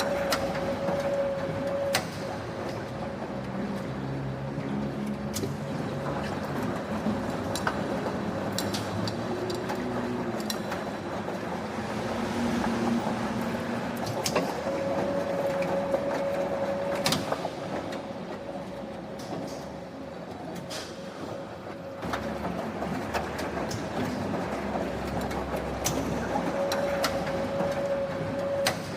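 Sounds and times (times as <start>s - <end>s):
factory machinery humming: 0.0s - 28.9s
machine whine: 0.0s - 28.9s.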